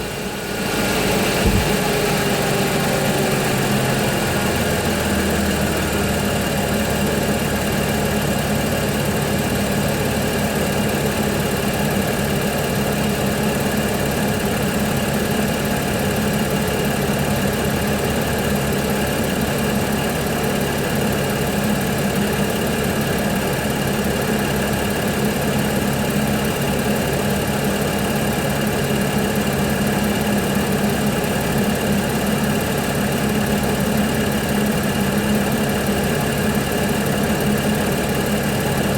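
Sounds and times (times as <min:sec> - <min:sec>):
car engine idling with rattle: 0:00.0 - 0:38.9.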